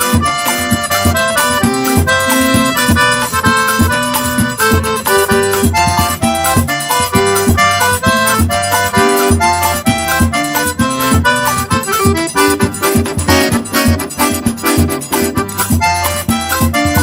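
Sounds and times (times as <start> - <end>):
accordion melody: 0.0 - 17.0
bass drum beat: 0.0 - 17.0.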